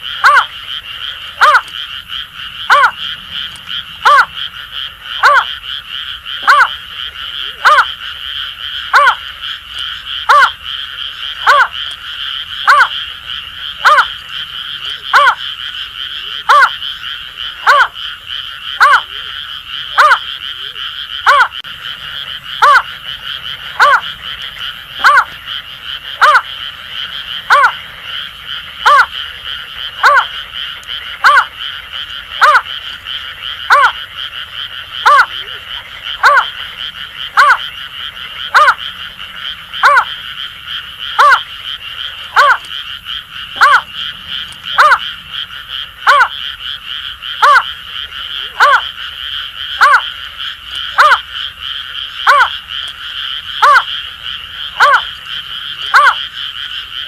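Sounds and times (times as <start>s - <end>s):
frogs chorus: 0.0s - 57.0s.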